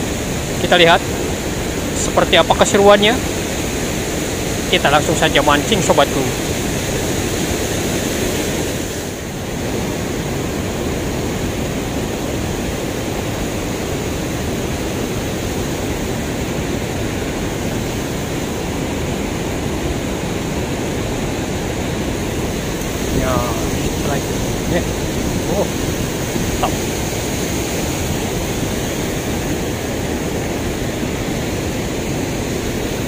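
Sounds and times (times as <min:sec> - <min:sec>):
river water rushing over weir: 0:00.0 - 0:33.0.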